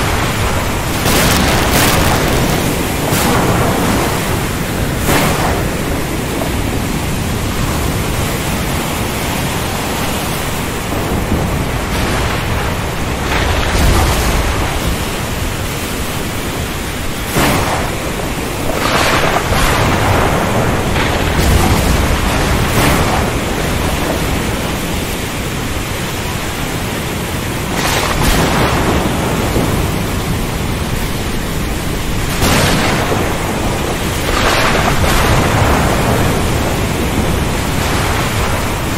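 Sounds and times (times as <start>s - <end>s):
rolling thunder: 0.0s - 25.8s, 26.4s - 38.9s
steady rain: 0.0s - 38.9s
surf noise: 0.0s - 38.9s.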